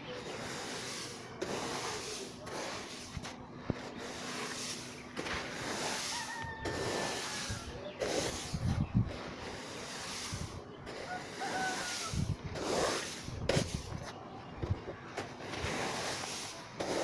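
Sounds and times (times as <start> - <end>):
grain rasping over concrete: 0.0 - 17.0.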